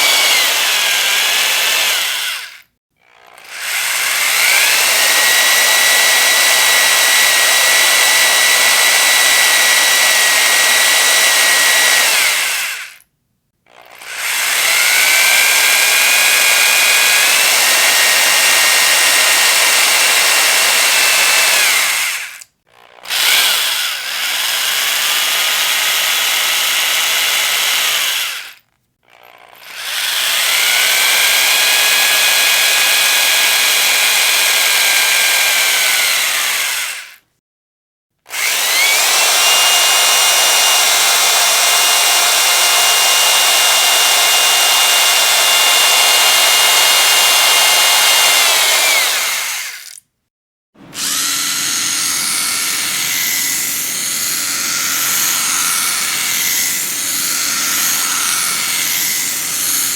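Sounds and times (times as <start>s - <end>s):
power drill motor whine: 0.0s - 13.0s, 13.7s - 37.2s, 38.3s - 50.0s, 50.8s - 59.9s.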